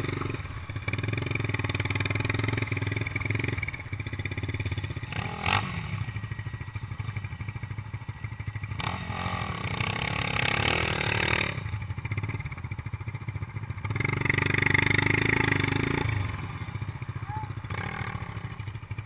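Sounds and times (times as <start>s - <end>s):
atv engines idling and revving: 0.0s - 19.0s.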